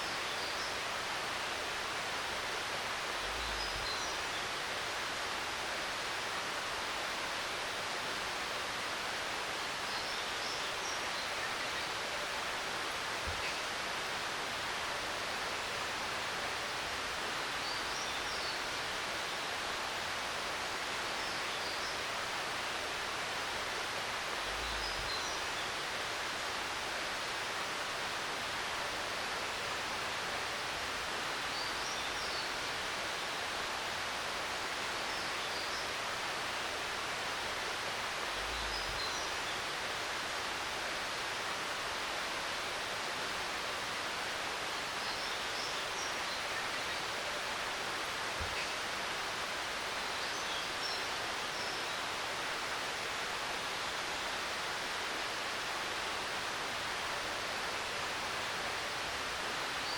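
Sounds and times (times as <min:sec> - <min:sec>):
flowing mountain water: 0:00.0 - 0:59.9.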